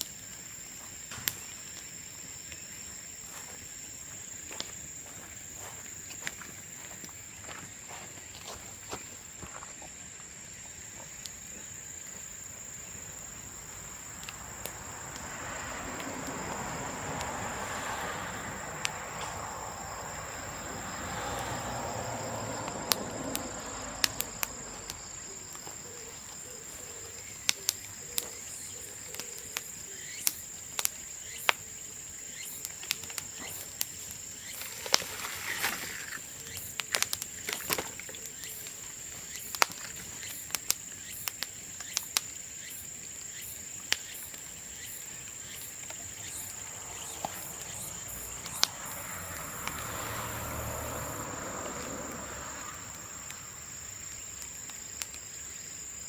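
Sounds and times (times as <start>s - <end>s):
bamboo cracking and popping in fire: 0.0s - 56.0s
high insect drone: 0.0s - 56.0s.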